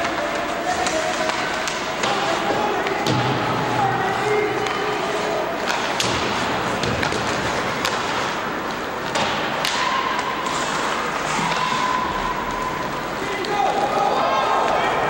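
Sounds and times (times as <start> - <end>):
hockey sticks and puck clacking: 0.0 - 15.0
skates on ice rink: 0.0 - 15.0.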